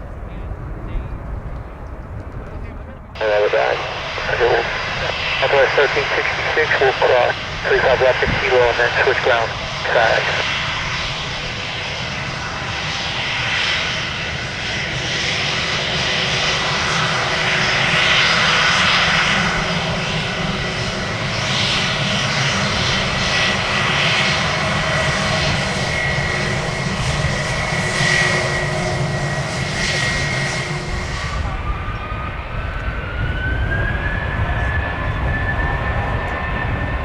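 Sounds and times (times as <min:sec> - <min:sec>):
jet engines rumbling with high whine: 0:00.0 - 0:37.0.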